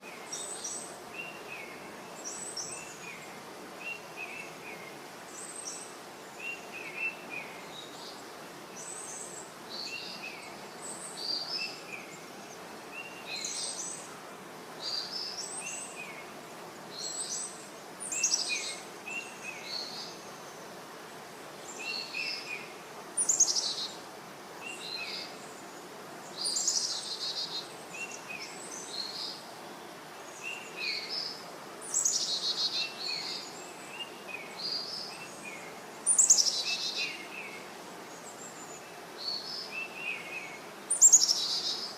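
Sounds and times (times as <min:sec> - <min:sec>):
faint background hiss: 0:00.0 - 0:41.9
songbirds chirping: 0:00.0 - 0:41.9.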